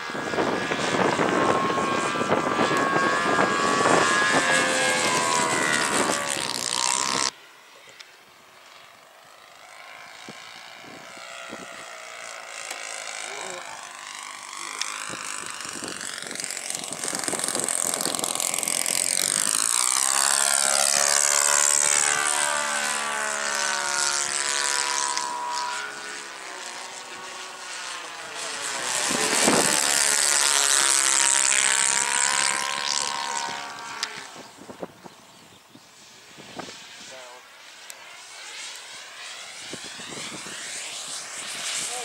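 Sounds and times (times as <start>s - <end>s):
model airplane motor and propeller: 0.0s - 42.0s.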